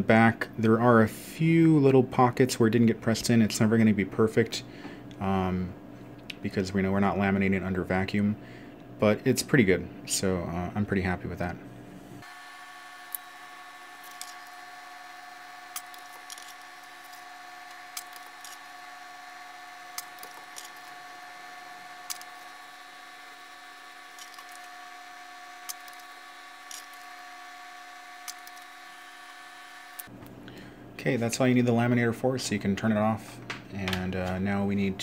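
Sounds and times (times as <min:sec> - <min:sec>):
laminator motor whine: 0:03.2 - 0:35.0.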